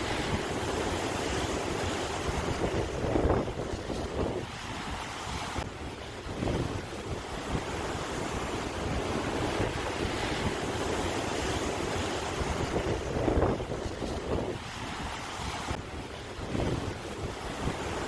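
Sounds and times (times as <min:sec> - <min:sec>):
sea waves breaking: 0:00.0 - 0:18.0
wind buffeting microphone: 0:00.0 - 0:18.0.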